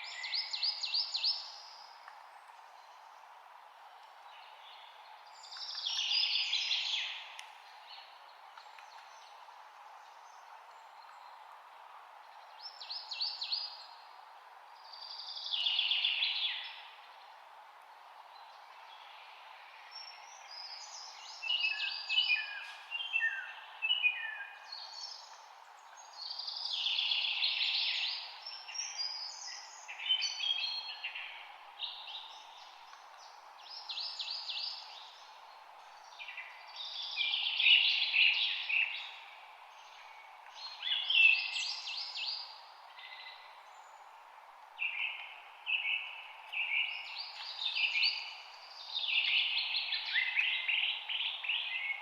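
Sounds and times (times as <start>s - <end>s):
low background hiss: 0.0s - 52.0s
songbirds chirping and trilling: 0.0s - 52.0s.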